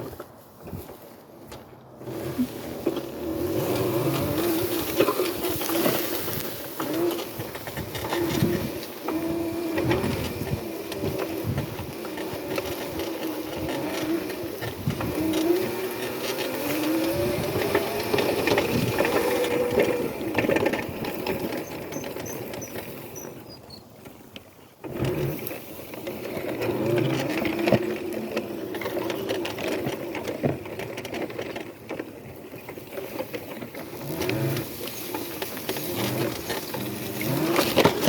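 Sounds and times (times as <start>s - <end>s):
electric dirt bike motor whining: 2.0s - 23.9s, 24.8s - 30.6s, 33.8s - 38.0s.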